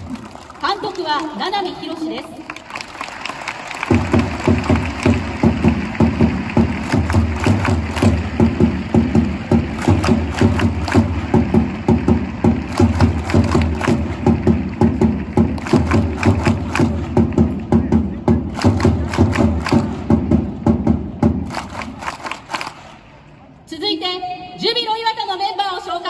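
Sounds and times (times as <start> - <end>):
loud rhythmic stadium music: 2.2 - 23.4.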